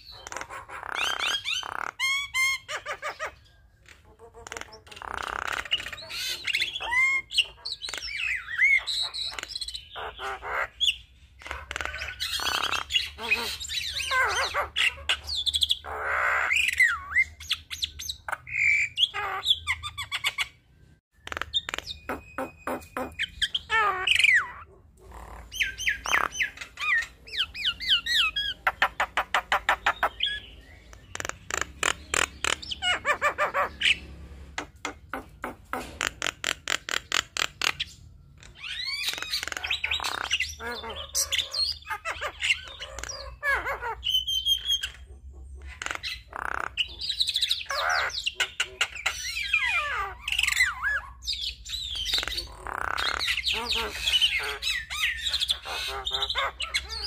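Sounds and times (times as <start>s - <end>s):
bird singing chattering song: 0.0s - 57.0s.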